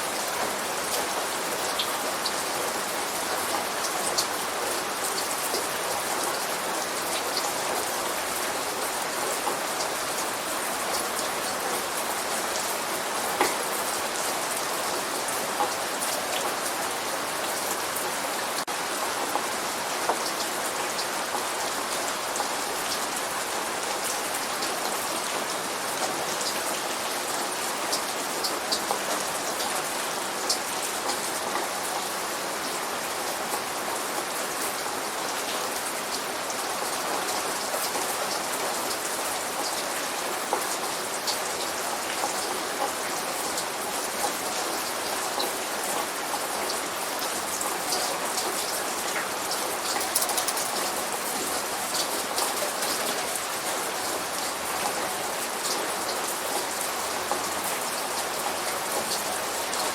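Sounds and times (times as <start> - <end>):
light rain falling: 0.0 - 59.9
raindrops ticking on a surface: 0.1 - 59.9.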